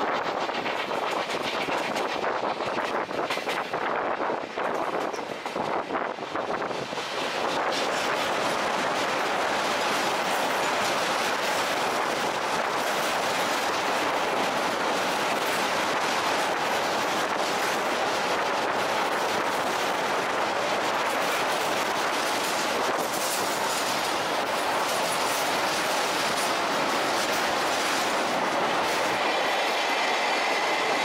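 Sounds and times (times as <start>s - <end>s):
train coach rolling noise: 0.0s - 31.0s.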